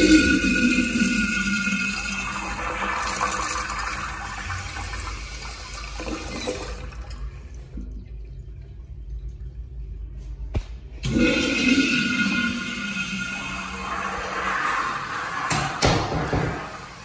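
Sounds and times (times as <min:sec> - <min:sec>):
urinal flushing: 0:00.0 - 0:17.0.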